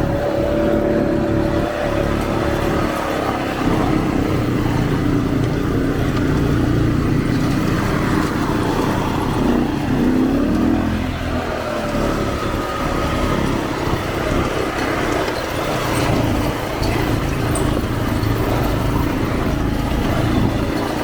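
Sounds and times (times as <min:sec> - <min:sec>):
quad bike engines revving: 0:00.0 - 0:21.0.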